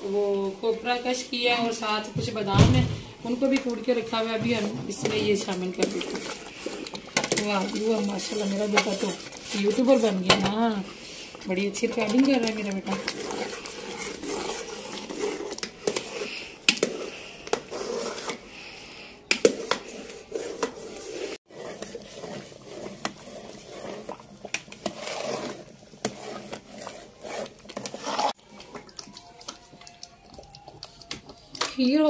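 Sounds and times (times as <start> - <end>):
metal ladle scraping pot: 1.1 - 29.8.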